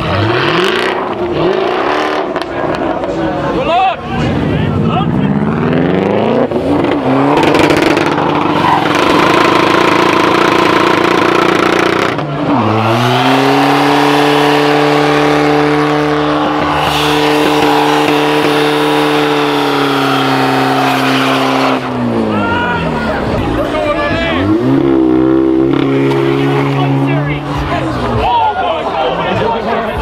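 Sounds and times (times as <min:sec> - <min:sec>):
car engine revving high: 0:00.0 - 0:28.2.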